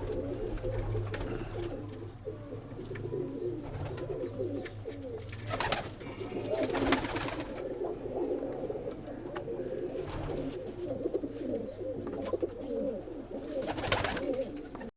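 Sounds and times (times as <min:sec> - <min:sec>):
pigeons cooing: 0:00.0 - 0:14.9.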